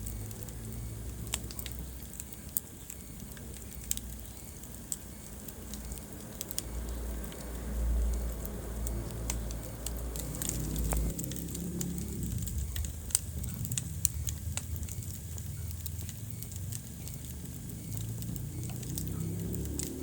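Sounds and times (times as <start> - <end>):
low rumble of burning fire: 0.0 - 20.0
wood fire crackling: 0.0 - 20.0.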